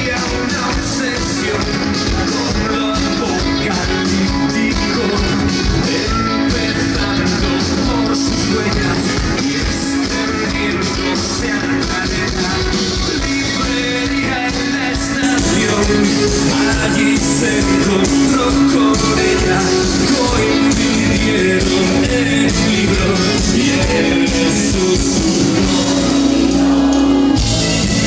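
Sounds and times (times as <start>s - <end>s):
electric guitars: 0.0s - 28.0s
person singing: 0.0s - 28.0s
rock band playing live: 0.0s - 28.0s
steady drum beat: 0.0s - 28.0s.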